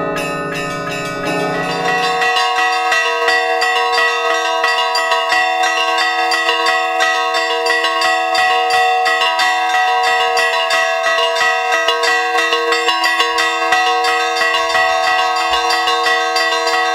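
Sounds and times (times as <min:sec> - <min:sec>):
church bells pealing: 0:00.0 - 0:16.9.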